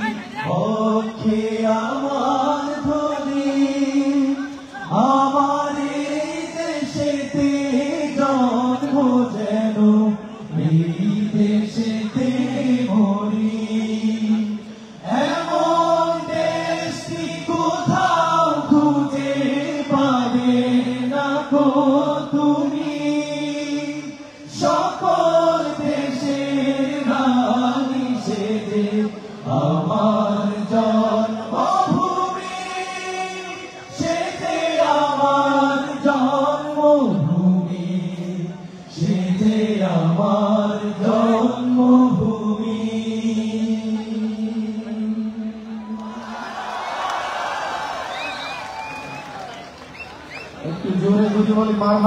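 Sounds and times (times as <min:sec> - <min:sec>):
men singing devotional song: 0:00.0 - 0:45.6.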